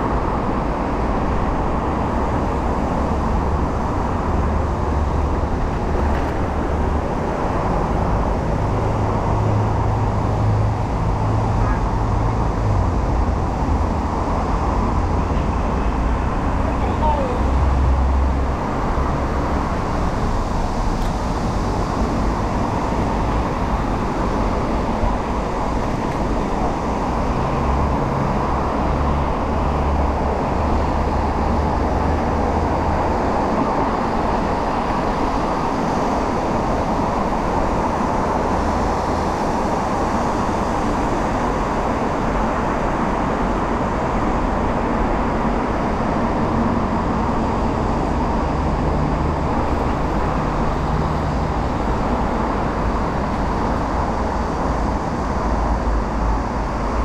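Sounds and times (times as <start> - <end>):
city road traffic rumble: 0.0 - 57.0.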